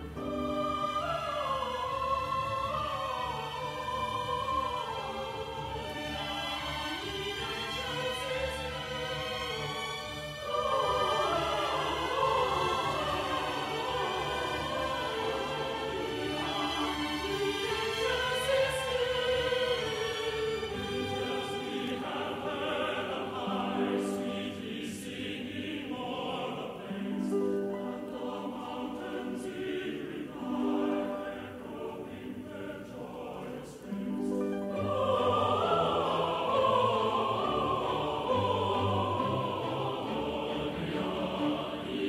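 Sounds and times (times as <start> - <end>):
choral singing with orchestra: 0.0 - 42.0.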